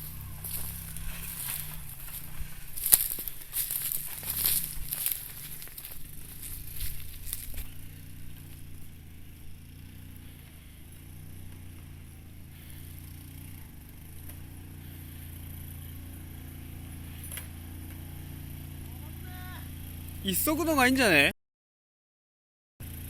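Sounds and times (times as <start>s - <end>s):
small motorcycle engine running: 0.0s - 20.2s.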